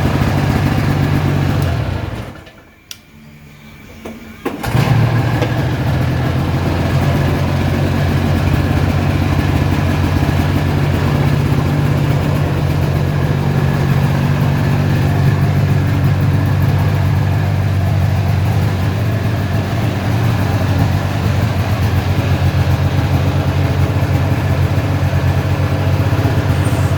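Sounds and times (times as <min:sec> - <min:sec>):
snowmobile engine idling: 0:00.0 - 0:02.5, 0:04.5 - 0:26.9.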